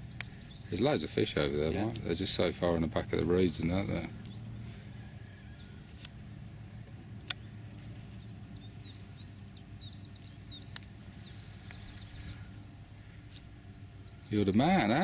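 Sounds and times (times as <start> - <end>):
songbirds chirping and twittering: 0.0 - 15.0
steady low background hum: 0.0 - 15.0.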